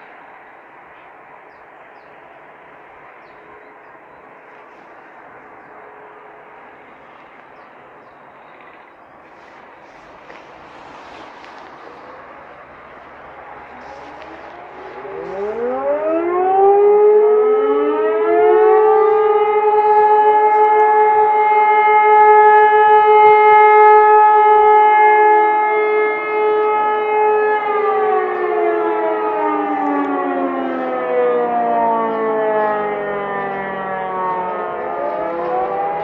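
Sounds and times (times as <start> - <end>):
civil defence sirens wailing: 0.0 - 36.0.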